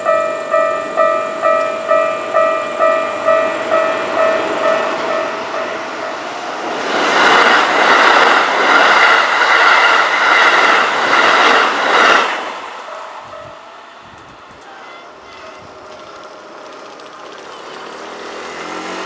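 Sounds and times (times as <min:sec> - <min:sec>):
level crossing warning bell: 0:00.0 - 0:09.4, 0:10.3 - 0:18.6
train passing at high speed: 0:00.0 - 0:19.0.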